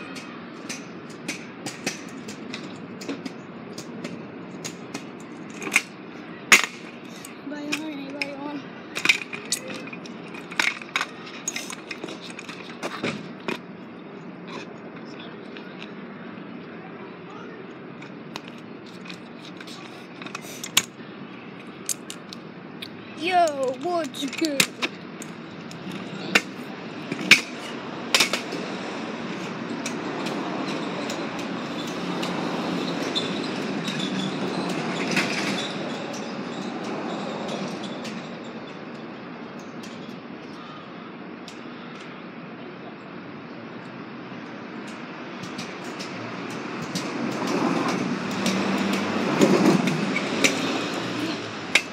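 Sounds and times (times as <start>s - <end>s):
kick scooter rolling on pavement: 0.1s - 16.0s, 17.9s - 21.0s, 23.2s - 40.8s, 44.4s - 51.9s.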